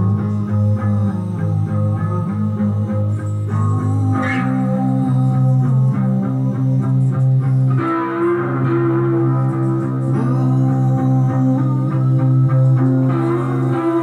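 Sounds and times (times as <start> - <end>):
electric guitar played slowly: 0.0 - 14.0.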